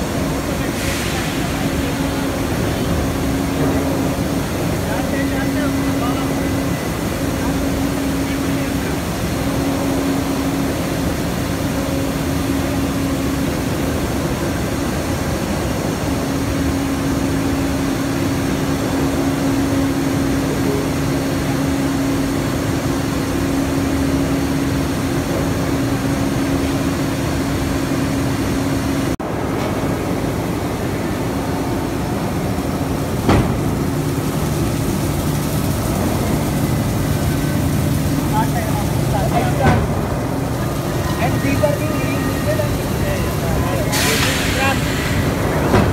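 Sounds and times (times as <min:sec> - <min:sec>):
machinery hum: 0:00.0 - 0:45.9.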